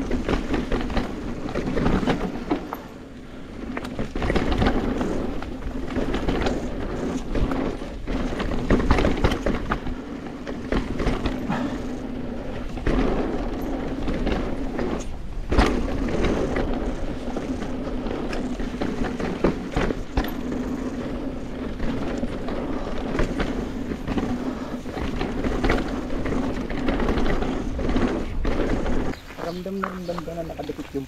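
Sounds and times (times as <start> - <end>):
knocks and rattles from bumps: 0.0 - 3.0, 3.6 - 31.0
bicycle rolling over rough ground: 0.0 - 31.0.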